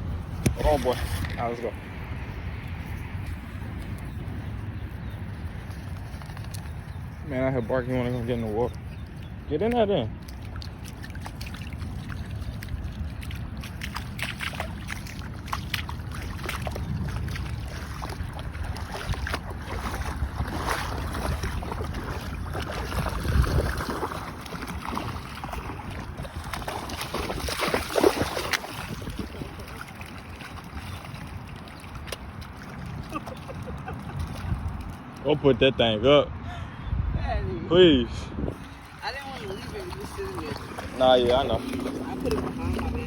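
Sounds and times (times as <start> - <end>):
water sloshing and splashing: 0.0 - 35.4, 38.5 - 43.0
wind buffeting microphone: 0.0 - 43.0.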